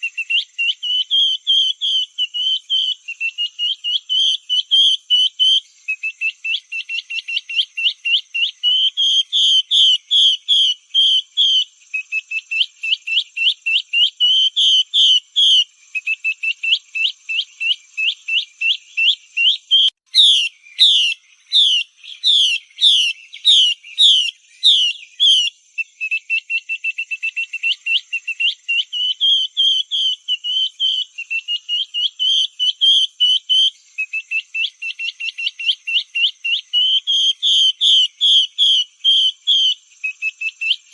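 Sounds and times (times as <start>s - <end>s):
bird calling with whistled notes: 0.0s - 40.9s.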